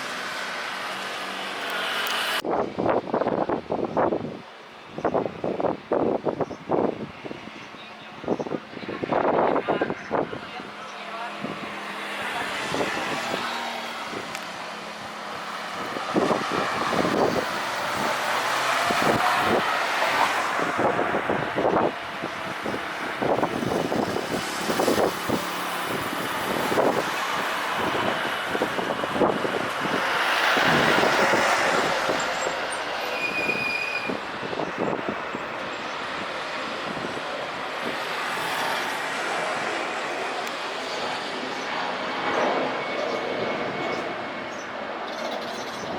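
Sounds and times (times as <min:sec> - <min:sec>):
rushing engine noise: 0:00.0 - 0:45.9
wind bumping microphone: 0:02.4 - 0:10.8, 0:11.4 - 0:45.9.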